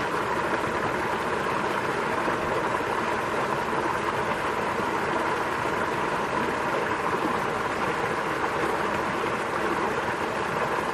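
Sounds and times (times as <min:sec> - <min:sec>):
stream splashing over rocks: 0:00.0 - 0:10.9.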